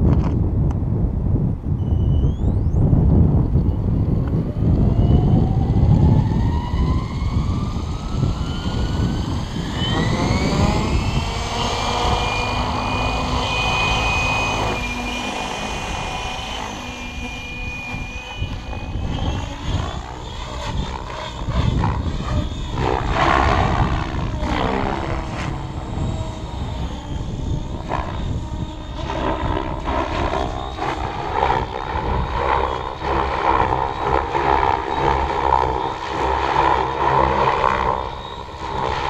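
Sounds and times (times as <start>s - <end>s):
wind on microphone: 0.0s - 39.0s
electric motor whine rising: 1.8s - 39.0s.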